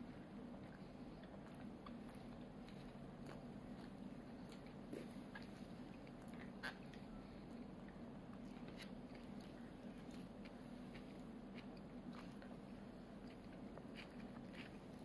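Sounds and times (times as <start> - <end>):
low room hum: 0.0 - 15.0
toddler chewing: 0.6 - 15.0.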